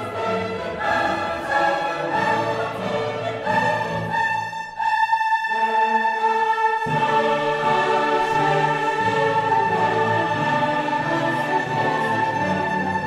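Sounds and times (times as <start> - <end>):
orchestral music with choir: 0.0 - 13.0.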